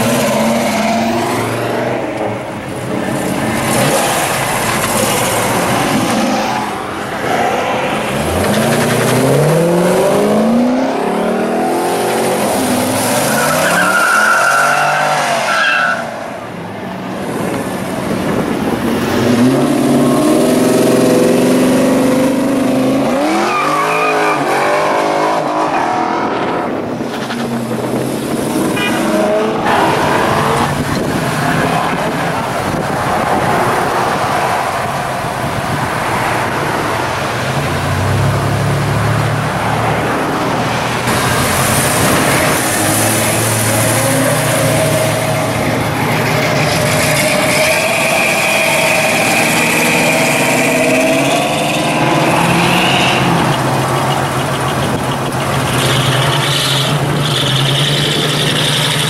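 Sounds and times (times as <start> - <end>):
cars accelerating past: 0.0 - 15.6, 17.6 - 59.0.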